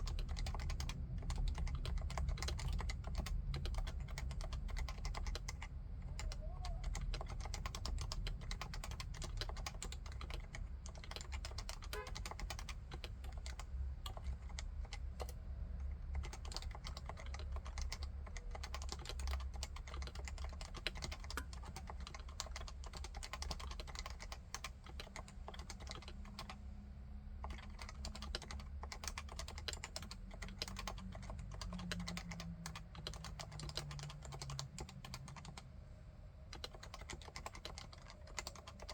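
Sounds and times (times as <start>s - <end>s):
fast keyboard typing: 0.0s - 26.6s, 27.4s - 35.6s, 36.5s - 38.9s.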